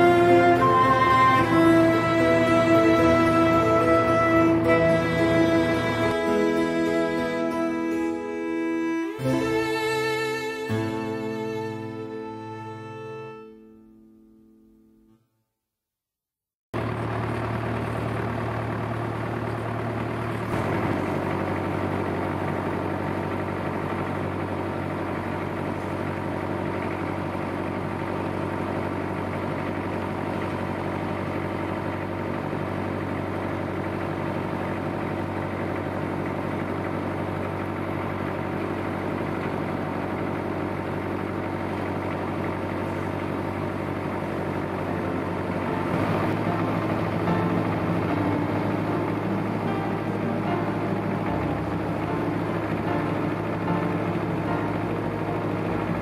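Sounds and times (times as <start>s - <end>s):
tractor engine running: 0.0s - 13.2s, 16.8s - 56.0s.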